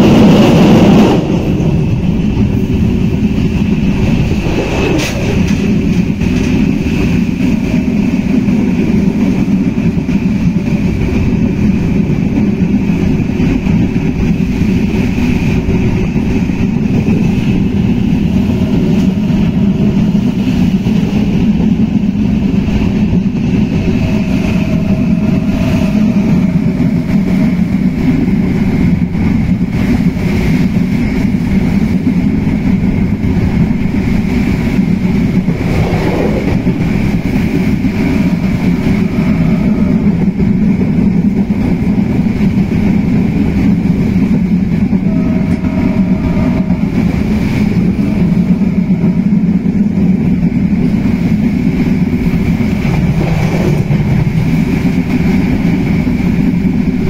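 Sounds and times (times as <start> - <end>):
train wheels rumbling on track: 0.0 - 57.0
wind noise: 0.0 - 57.0.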